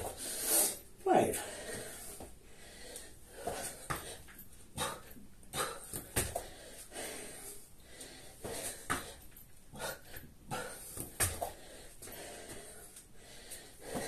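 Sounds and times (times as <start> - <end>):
man breathing hard: 0.0 - 14.0.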